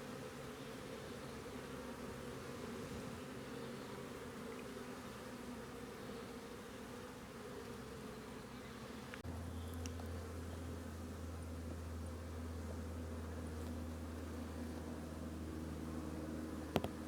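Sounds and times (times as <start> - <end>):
honeybees humming: 0.0 - 17.0.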